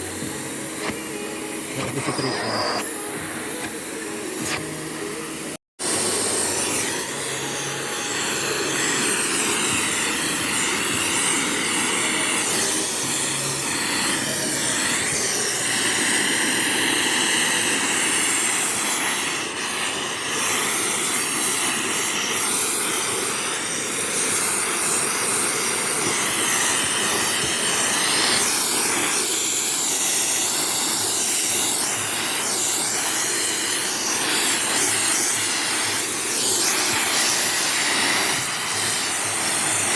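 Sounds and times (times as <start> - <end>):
vacuum cleaner whine: 0.0 - 39.9.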